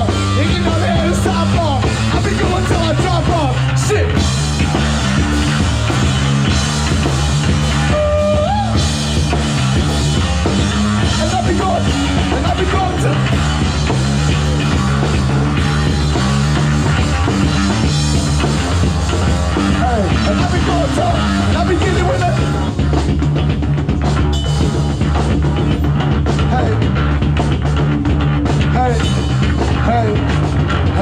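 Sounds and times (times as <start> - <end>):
bent lead guitar notes: 0.0 - 31.0
drum kit: 0.0 - 31.0
stepping bass line: 0.0 - 31.0.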